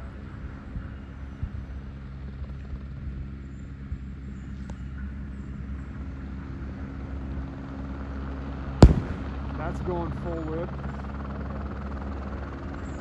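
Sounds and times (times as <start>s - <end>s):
helicopter droning: 0.0s - 13.0s.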